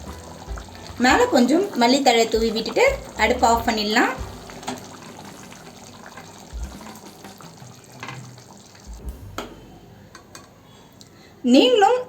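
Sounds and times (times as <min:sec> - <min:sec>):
low steady kitchen noise: 0:00.0 - 0:12.0.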